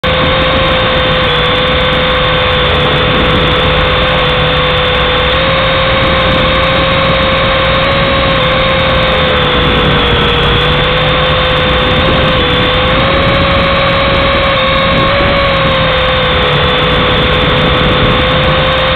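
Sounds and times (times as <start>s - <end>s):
toy helicopter motor whine: 0.0s - 18.9s.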